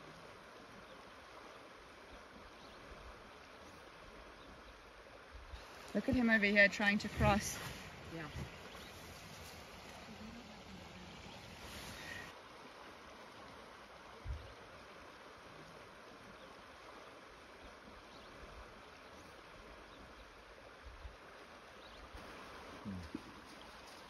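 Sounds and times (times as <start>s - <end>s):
flowing river water: 0.0s - 24.0s.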